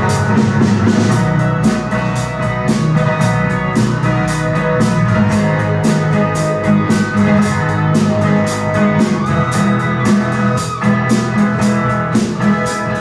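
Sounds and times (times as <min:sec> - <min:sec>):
drum kit beat: 0:00.0 - 0:13.0
guitar and keyboard chords: 0:00.0 - 0:13.0.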